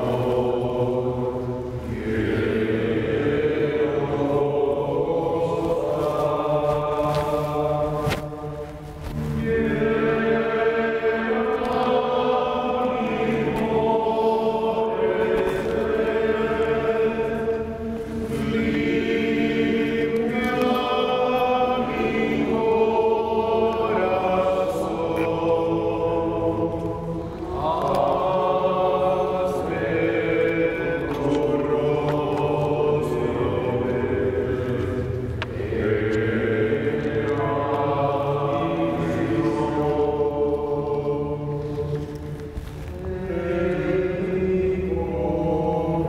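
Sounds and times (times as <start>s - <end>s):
choir singing a hymn: 0.0s - 46.0s.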